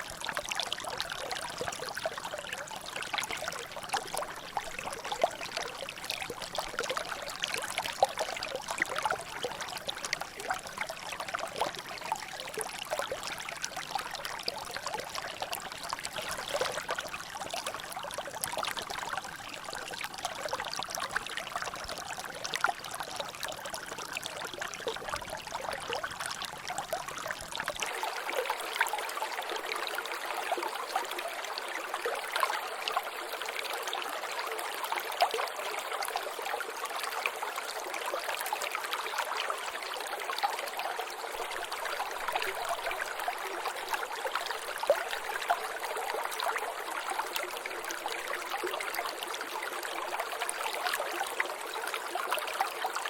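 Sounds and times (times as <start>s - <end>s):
water trickling and dripping: 0.0s - 53.0s.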